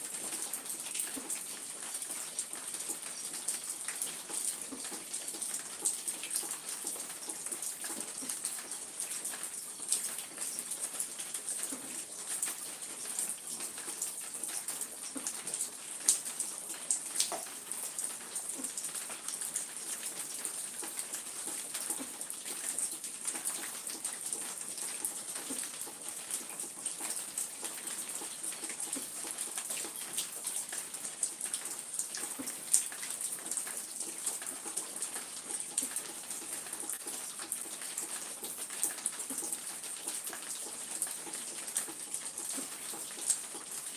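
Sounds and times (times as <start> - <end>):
rain falling: 0.0 - 43.9
water drips: 0.1 - 43.9.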